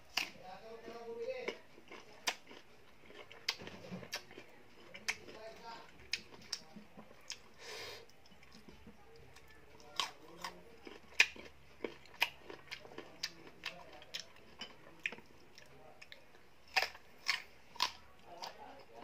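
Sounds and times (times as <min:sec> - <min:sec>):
crunchy mango being chewed: 0:00.0 - 0:19.0.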